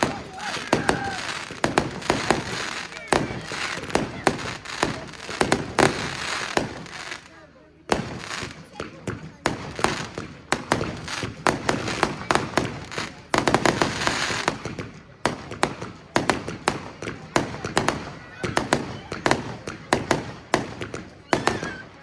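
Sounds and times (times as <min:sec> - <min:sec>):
fireworks crackling: 0:00.0 - 0:22.0
fireworks shells exploding: 0:00.0 - 0:22.0.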